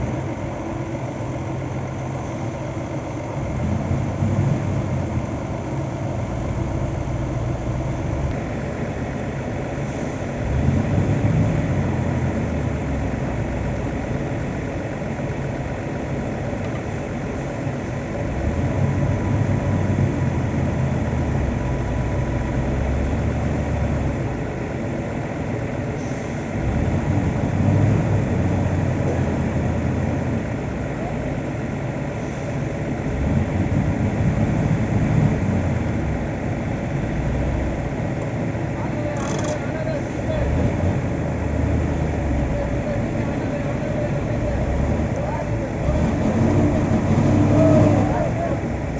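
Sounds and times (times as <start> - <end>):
heavy machinery engine running: 0.0 - 48.9.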